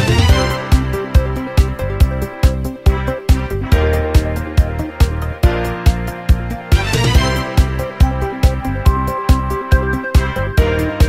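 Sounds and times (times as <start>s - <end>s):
fast beat music with bass drum: 0.0s - 11.0s.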